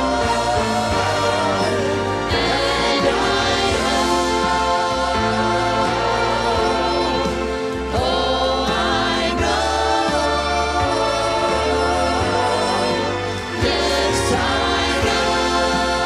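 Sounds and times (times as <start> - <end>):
instrumental accompaniment with bass: 0.0 - 16.0
vocal trio singing in harmony: 0.0 - 16.0.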